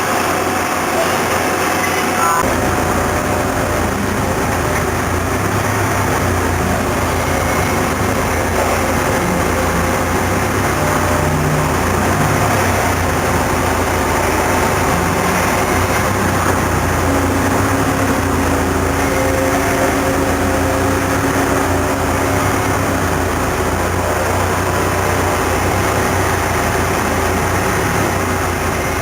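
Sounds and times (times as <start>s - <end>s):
machining center running: 0.0s - 29.0s.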